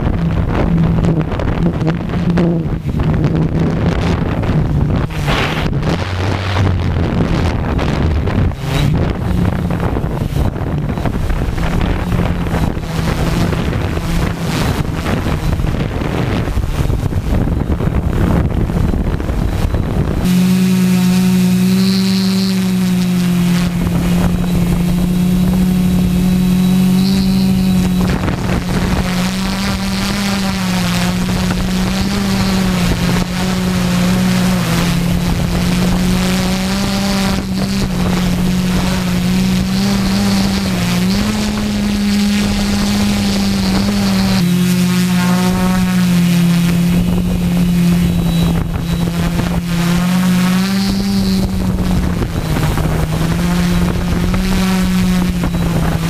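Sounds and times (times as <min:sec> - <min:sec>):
drone propellers humming: 0:00.0 - 0:56.0
wind buffeting microphone: 0:00.0 - 0:56.0.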